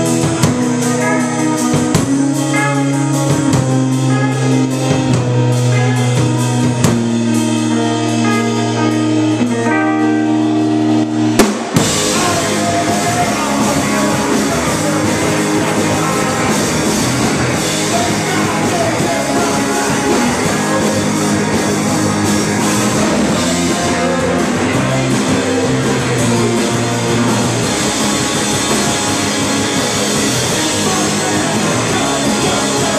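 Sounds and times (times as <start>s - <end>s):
bass guitar notes: 0.0s - 32.9s
electric guitar chords: 0.0s - 32.9s
rock band playing: 0.0s - 32.9s.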